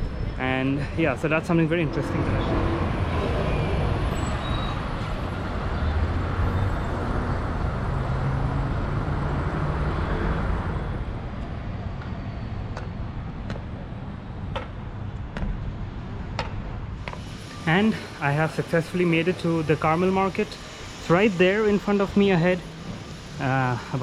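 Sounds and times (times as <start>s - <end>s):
street noise: 0.0s - 24.0s
vehicle engine hum and road noise: 0.0s - 24.0s.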